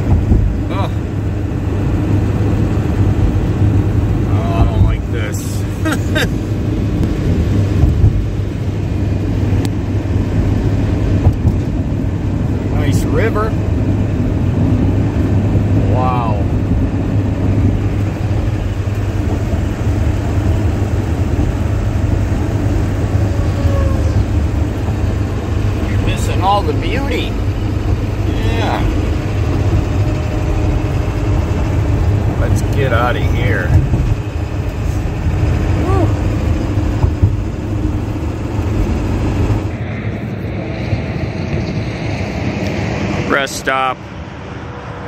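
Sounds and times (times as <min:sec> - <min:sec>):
truck engine drone: 0:00.0 - 0:45.0.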